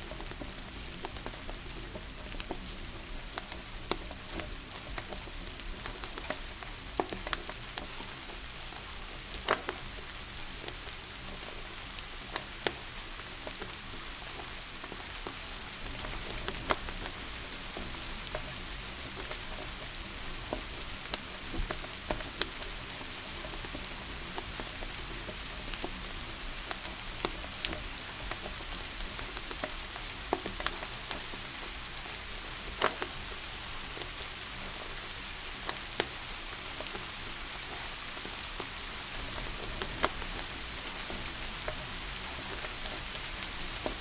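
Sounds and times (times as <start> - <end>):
rain hiss: 0.0 - 44.0
wood fire crackling: 0.0 - 44.0.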